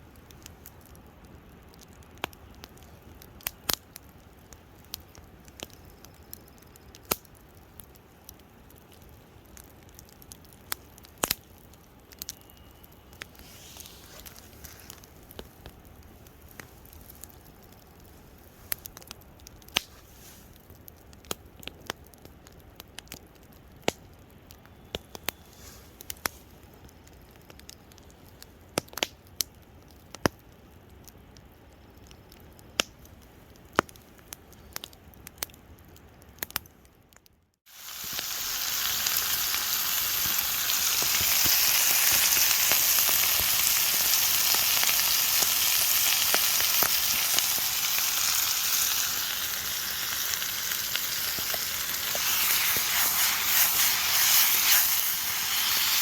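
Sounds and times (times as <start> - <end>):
campfire crackling and popping: 0.0 - 56.0
low steady hiss: 0.0 - 56.0.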